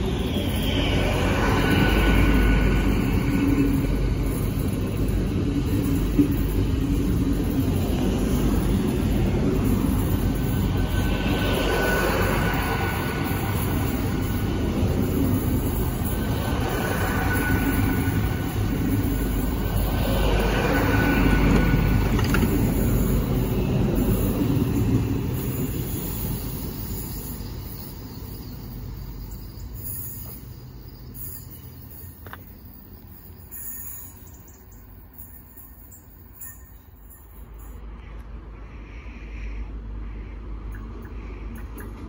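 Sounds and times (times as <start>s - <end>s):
train passing with loud rumble: 0.0s - 42.0s.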